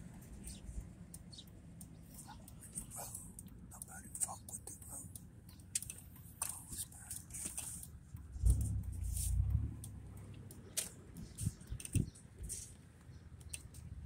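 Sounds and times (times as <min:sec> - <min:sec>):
vehicle driving slowly: 0:00.0 - 0:14.0
light clicks: 0:00.2 - 0:13.9.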